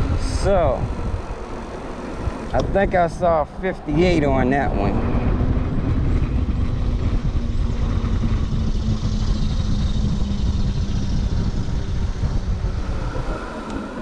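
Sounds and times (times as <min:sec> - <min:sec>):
electric bike hum: 0:00.0 - 0:14.0
wind and road noise rumble: 0:00.0 - 0:14.0.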